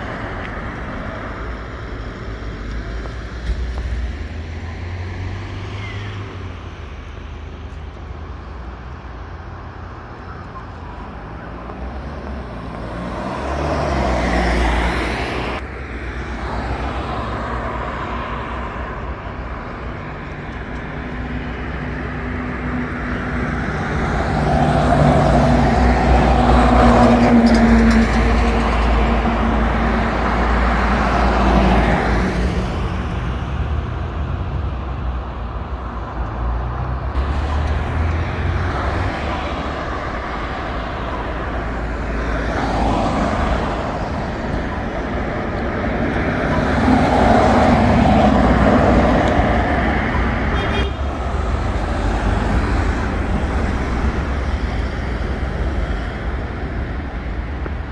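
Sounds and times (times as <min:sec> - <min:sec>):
vehicles passing on road: 0:00.0 - 0:57.9.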